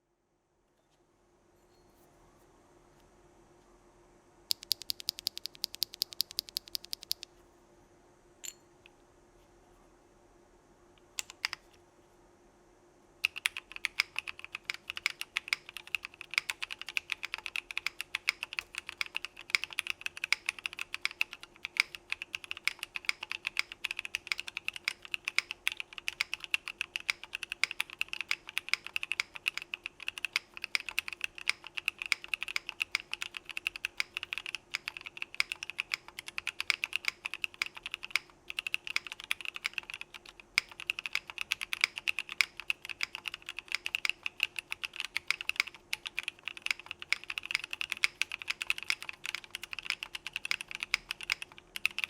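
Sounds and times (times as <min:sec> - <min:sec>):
mechanical keyboard typing: 0:04.5 - 0:07.3, 0:11.0 - 0:11.7, 0:13.2 - 0:52.0.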